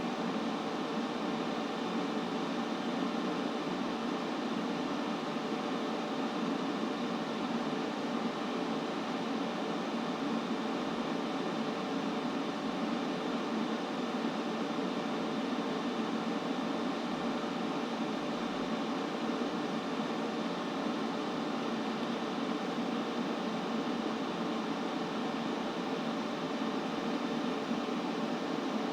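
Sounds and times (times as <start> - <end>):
steady white noise hiss: 0.0 - 28.9.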